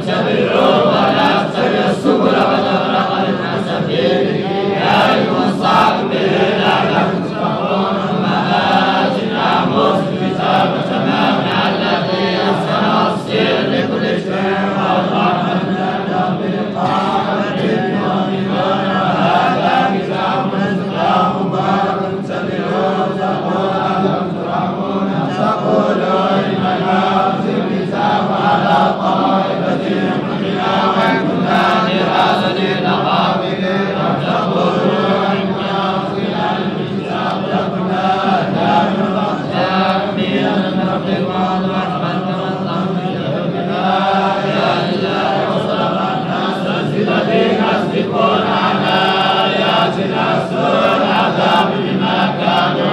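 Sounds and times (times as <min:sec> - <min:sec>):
men chanting in unison: 0:00.0 - 0:52.9.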